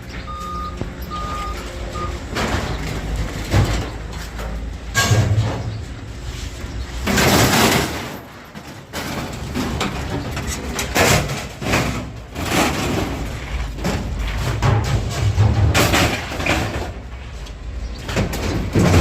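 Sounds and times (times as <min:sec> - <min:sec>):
scrap metal crashing and scraping: 0:01.1 - 0:19.0.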